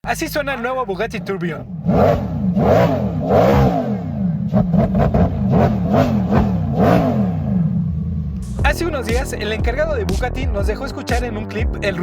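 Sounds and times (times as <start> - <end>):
car engine revving: 0.3 - 10.0.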